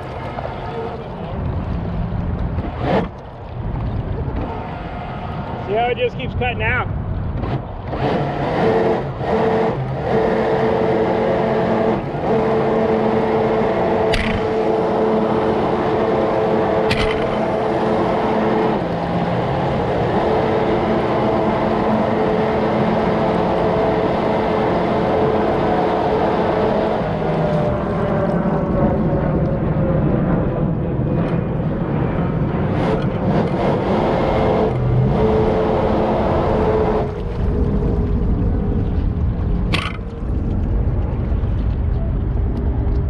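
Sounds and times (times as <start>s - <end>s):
jet kayak motor humming: 0.0s - 5.7s, 7.1s - 40.7s.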